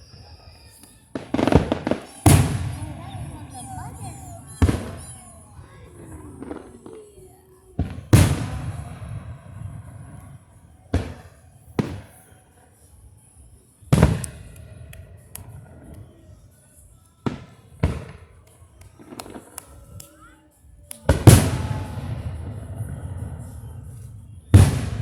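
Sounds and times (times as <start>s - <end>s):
fireworks bangs with crackling tail: 0.0s - 12.3s, 13.8s - 16.5s, 17.2s - 20.0s, 21.0s - 25.0s.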